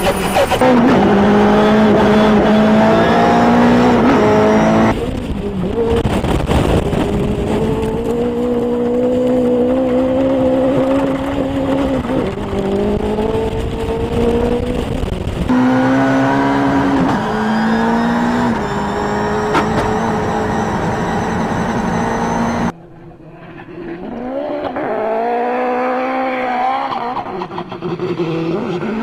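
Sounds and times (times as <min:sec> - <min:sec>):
turbocharged car engine accelerating: 0:00.0 - 0:29.0
wind and road noise: 0:00.0 - 0:29.0.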